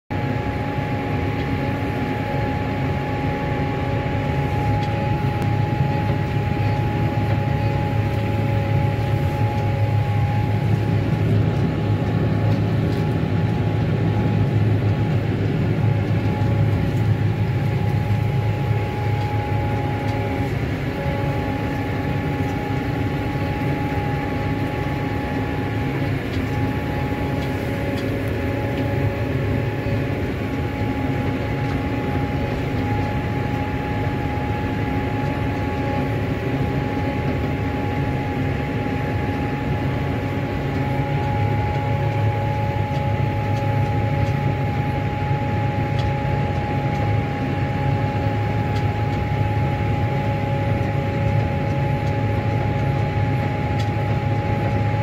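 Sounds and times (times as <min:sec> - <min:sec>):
thin steady whine: 0:00.1 - 0:55.0
tractor diesel engine drone: 0:00.1 - 0:55.0.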